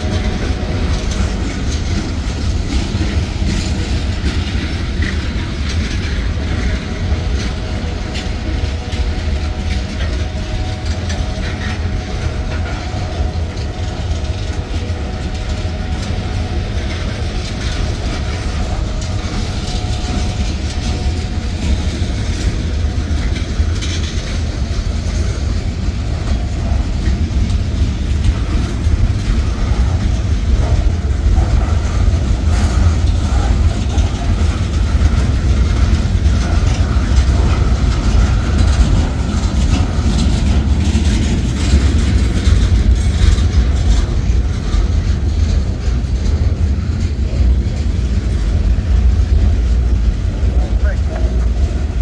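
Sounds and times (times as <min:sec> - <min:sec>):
train wheels rumbling on rails: 0:00.0 - 0:52.0
wheels clacking over rail joints: 0:00.0 - 0:52.0.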